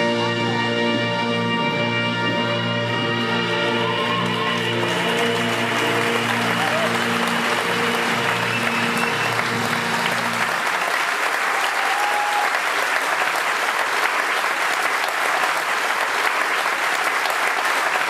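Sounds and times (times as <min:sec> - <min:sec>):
audience applauding: 0:02.9 - 0:18.0.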